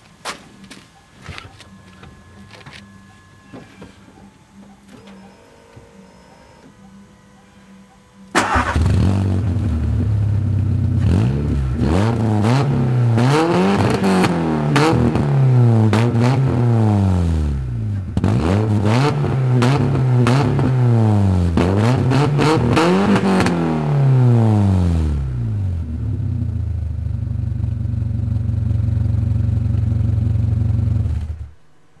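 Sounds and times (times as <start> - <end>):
car engine idling and revving: 4.1 - 31.7.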